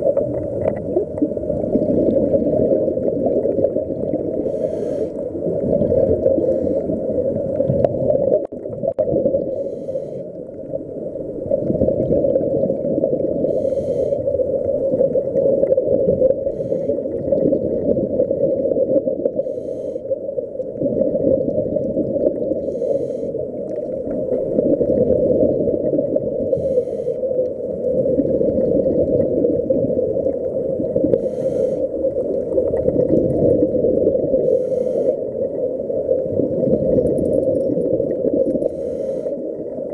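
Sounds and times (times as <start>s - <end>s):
muffled underwater rumble: 0.0s - 39.9s
regulator bubbles gurgling: 0.0s - 39.9s.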